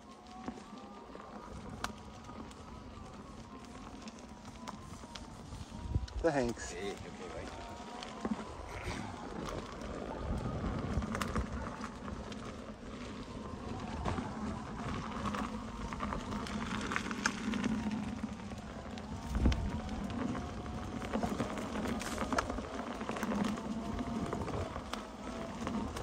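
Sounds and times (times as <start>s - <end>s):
electric motor whine: 0.0s - 26.0s
rolling tyre noise: 0.0s - 26.0s.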